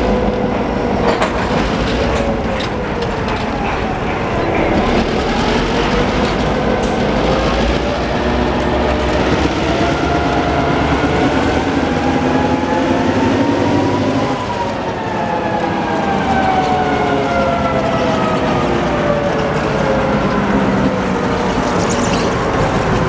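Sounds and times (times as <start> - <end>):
diesel locomotive engines droning: 0.0 - 23.0.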